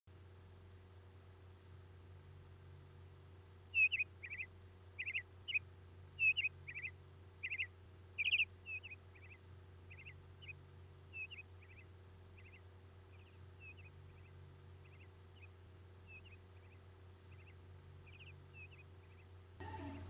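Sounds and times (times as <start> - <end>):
steady low hum: 0.1 - 20.0
songbird chirping: 0.6 - 20.0.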